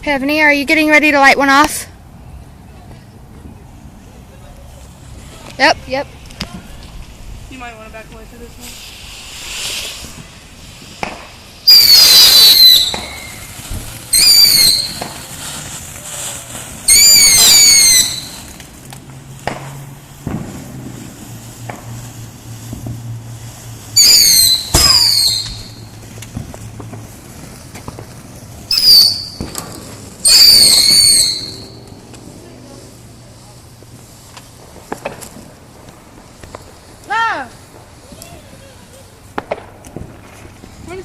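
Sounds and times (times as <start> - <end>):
firework pops: 1.0 - 1.8, 4.6 - 41.0
whistling firework: 2.2 - 41.0.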